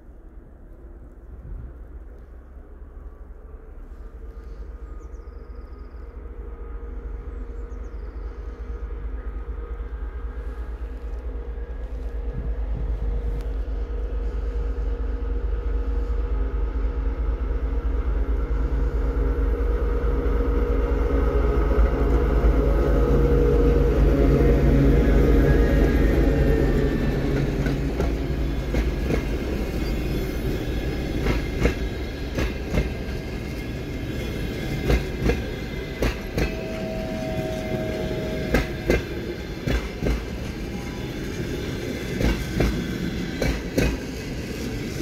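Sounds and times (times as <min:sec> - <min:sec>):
diesel locomotive engine hum: 0:00.0 - 0:45.0.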